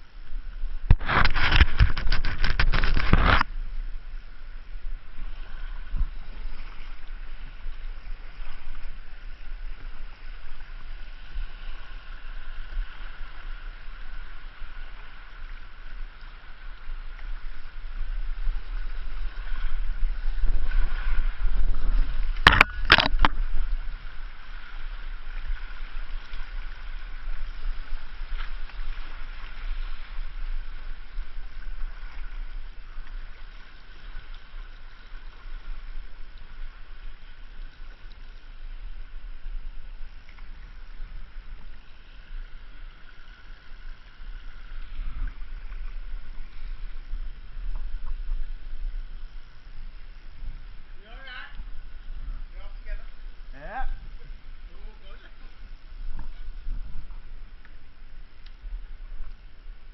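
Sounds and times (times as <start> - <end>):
river water rushing and gurgling: 0.0 - 59.9.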